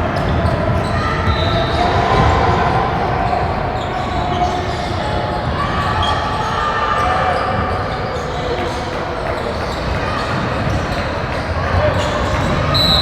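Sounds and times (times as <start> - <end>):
hubbub of voices: 0.0 - 13.0.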